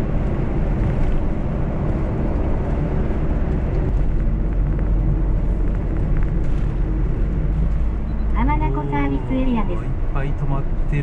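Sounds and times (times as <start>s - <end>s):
engine and road noise drone: 0.0s - 11.0s.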